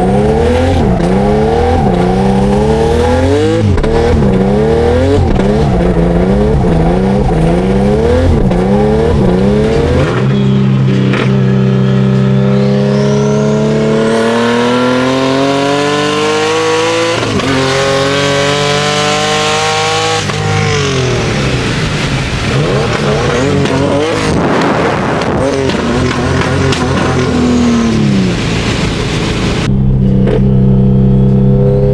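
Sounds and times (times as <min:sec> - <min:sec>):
tyre noise: 0:00.0 - 0:30.6
car engine revving: 0:00.0 - 0:31.9.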